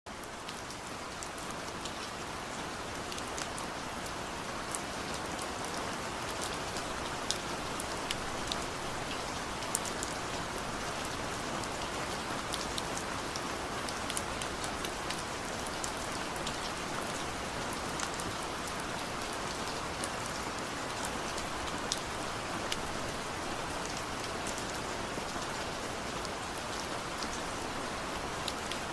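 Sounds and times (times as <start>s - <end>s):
steady rain: 0.1s - 28.9s.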